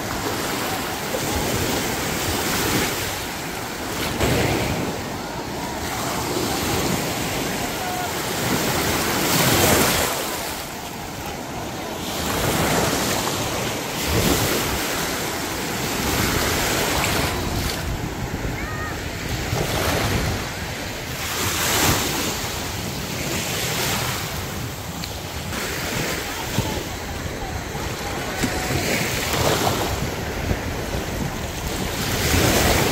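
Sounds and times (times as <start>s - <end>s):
small waves breaking on shore: 0.0s - 32.9s.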